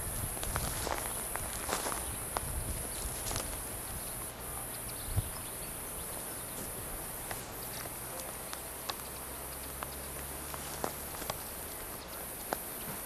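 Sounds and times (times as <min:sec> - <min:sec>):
steady high hiss: 0:00.0 - 0:13.0
faint ticks and clicks: 0:00.3 - 0:13.0.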